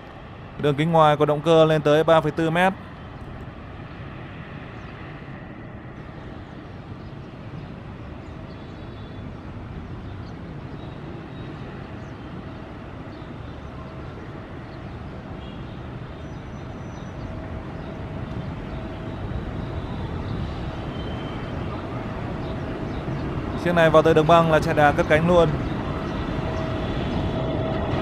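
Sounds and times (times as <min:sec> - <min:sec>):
distant jet engines taxiing: 0:00.0 - 0:28.0.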